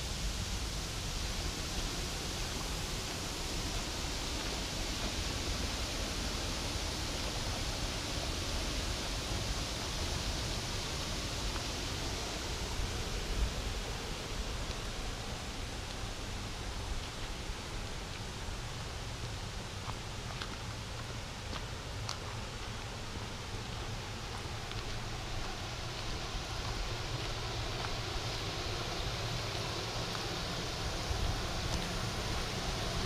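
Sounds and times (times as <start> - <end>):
small waterfall rushing: 0.0 - 33.0.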